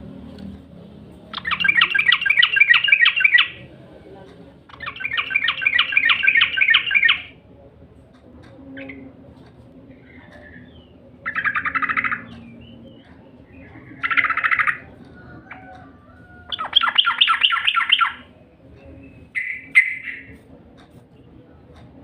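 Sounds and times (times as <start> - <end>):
bird chattering song: 1.2 - 7.4, 8.4 - 9.2, 9.9 - 22.0.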